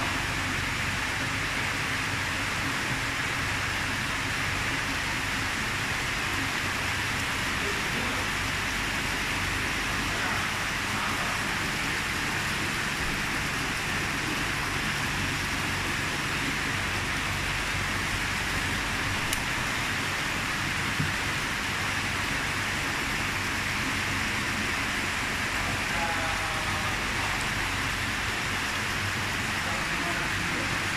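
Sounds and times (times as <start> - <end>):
hose water spraying onto water: 0.0 - 30.9.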